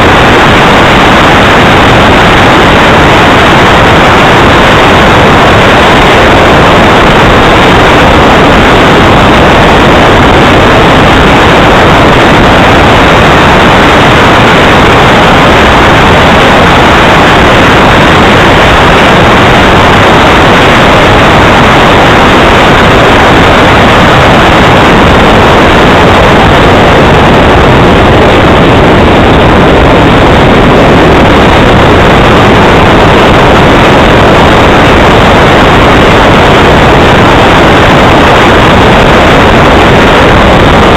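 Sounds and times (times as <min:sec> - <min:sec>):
model jet engine rushing: 0:00.0 - 0:40.9.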